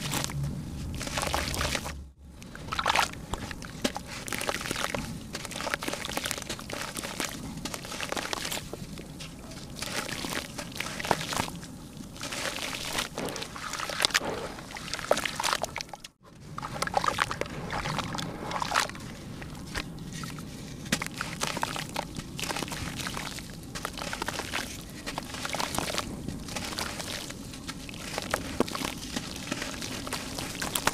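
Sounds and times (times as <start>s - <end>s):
wet dirt crumbling by hand: 0.0s - 16.0s, 16.6s - 30.9s
grit splashing into water: 0.0s - 30.9s.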